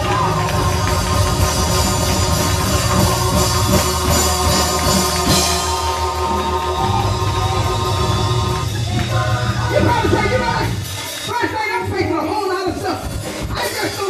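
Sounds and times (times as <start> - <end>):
keyboard chords: 0.0 - 13.5
drum kit: 0.0 - 14.0.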